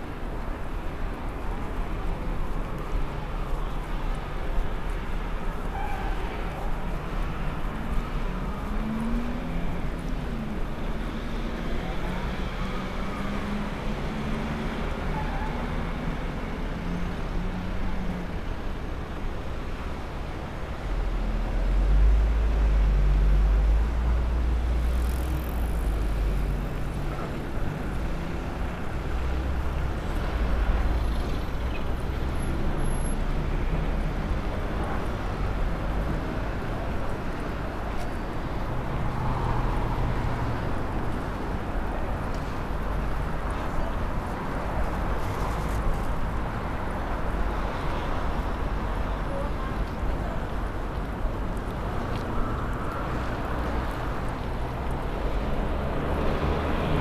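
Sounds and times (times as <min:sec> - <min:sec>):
vehicles passing on street: 0:00.0 - 0:57.0.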